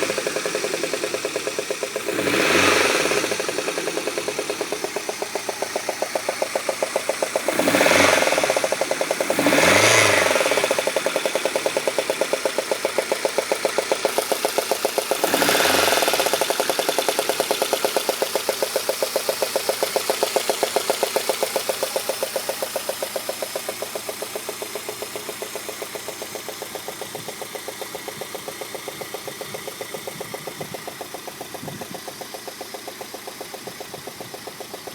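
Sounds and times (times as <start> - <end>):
engine revving: 0.0 - 31.0
car engine idling with knock: 0.0 - 34.9.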